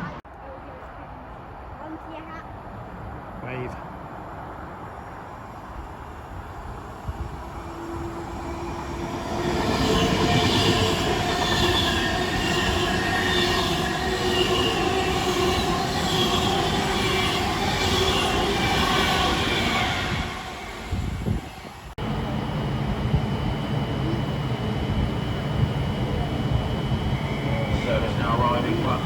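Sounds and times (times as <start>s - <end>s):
rail noise: 0.0s - 29.0s
train passing: 0.0s - 29.0s.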